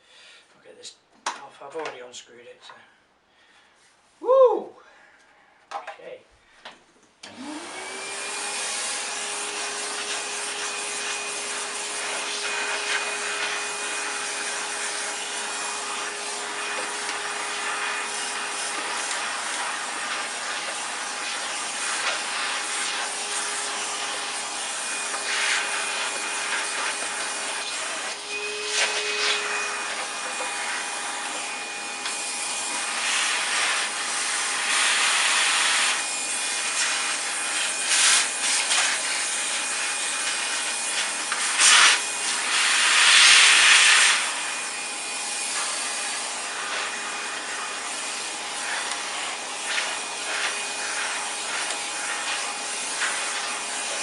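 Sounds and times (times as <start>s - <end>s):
vacuum cleaner running: 7.2s - 54.0s.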